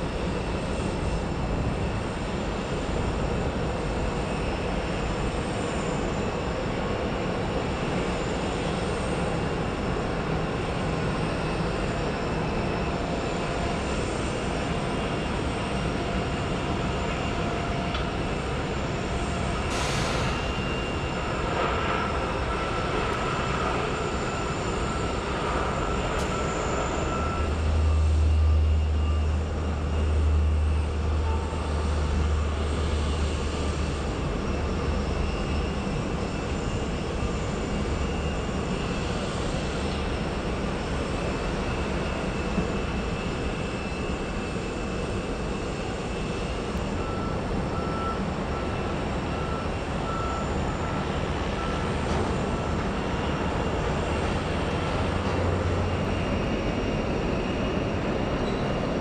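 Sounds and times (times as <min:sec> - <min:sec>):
turboprop engines rumbling: 0:00.0 - 0:59.0.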